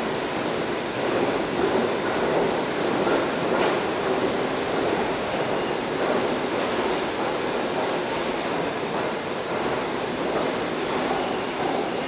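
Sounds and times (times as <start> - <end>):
subway train wheels on track: 0.0 - 12.0.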